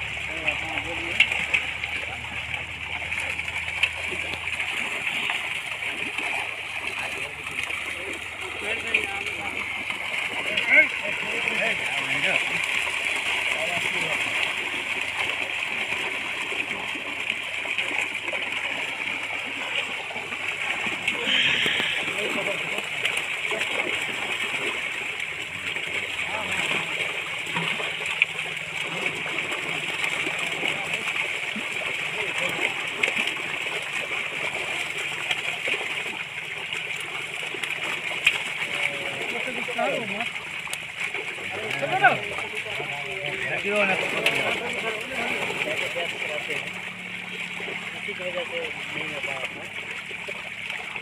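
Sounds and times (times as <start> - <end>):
fish thrashing and splashing: 0.0 - 51.0.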